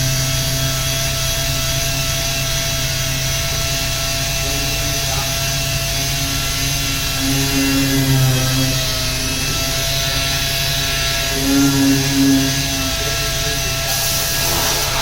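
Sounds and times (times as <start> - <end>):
power sander running: 0.0 - 15.0.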